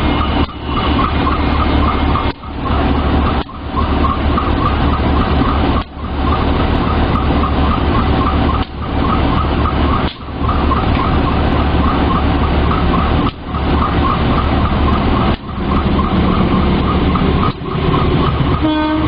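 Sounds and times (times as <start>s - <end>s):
diesel engine idling: 0.0s - 18.7s.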